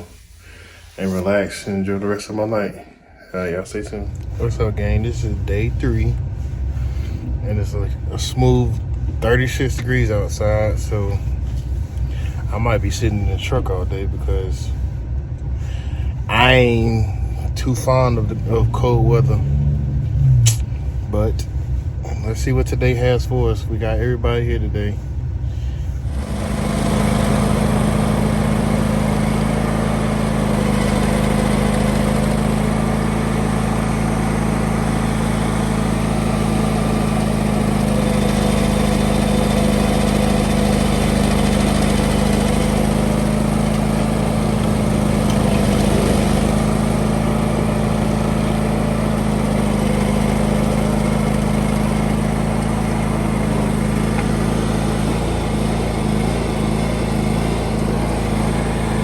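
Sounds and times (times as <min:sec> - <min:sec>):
engine running steadily: 0:03.4 - 0:59.0.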